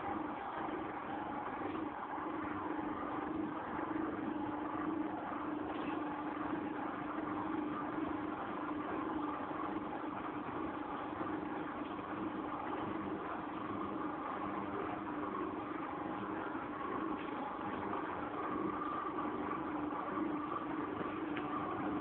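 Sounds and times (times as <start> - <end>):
dough mixer motor humming: 0.0 - 22.0.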